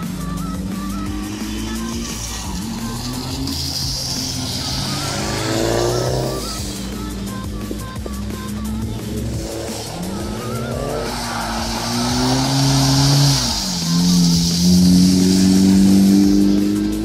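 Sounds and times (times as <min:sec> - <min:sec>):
car engine at high revs: 0:00.0 - 0:17.0
tyres hissing on wet surface: 0:00.0 - 0:17.0.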